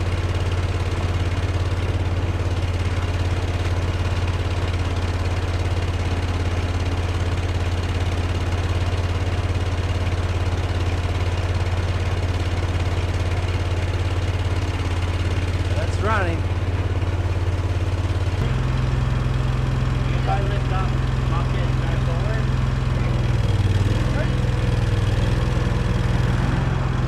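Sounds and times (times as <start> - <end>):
skid steer engine idling: 0.0 - 27.0.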